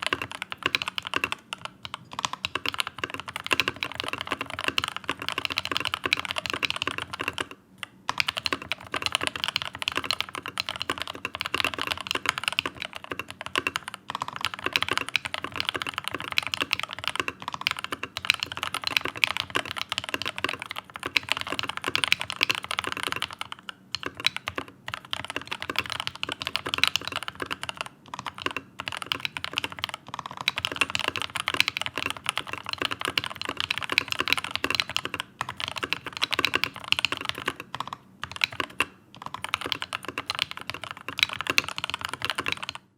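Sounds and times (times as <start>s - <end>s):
mechanical keyboard typing: 0.0s - 42.9s.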